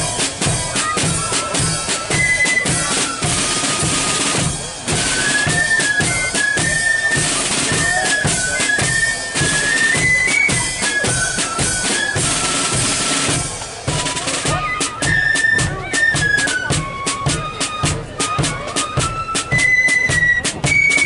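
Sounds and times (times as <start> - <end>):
flutes playing melody: 0.0 - 21.0
marching drums and cymbals: 0.0 - 21.0.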